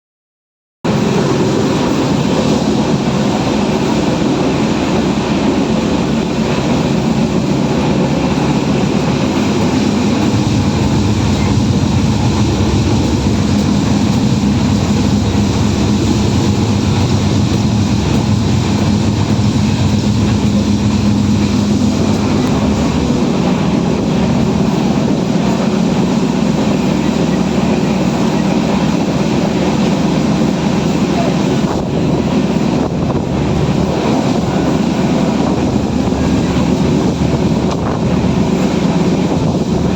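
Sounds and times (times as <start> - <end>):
train rumbling and rattling: 0.9 - 39.9.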